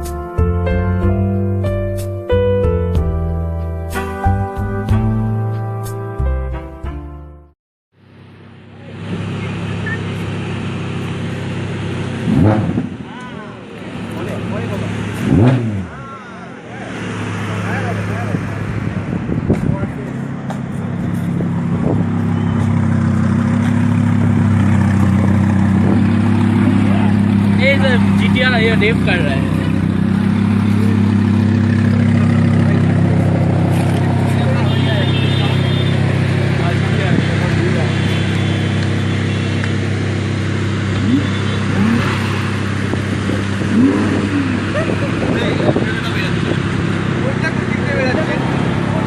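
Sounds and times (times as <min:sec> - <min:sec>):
road and wind noise: 0:07.9 - 0:49.0
vehicle engine running: 0:08.0 - 0:49.0.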